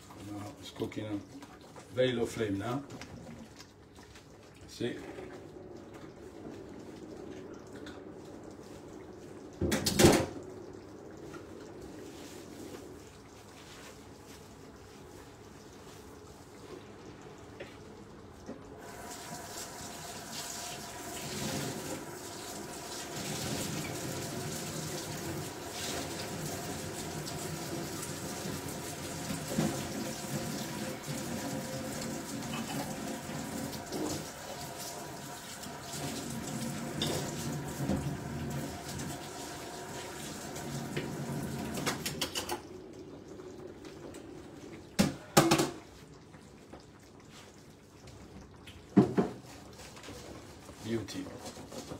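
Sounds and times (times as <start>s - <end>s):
kitchen tap running: 0.0s - 13.8s, 14.4s - 51.9s.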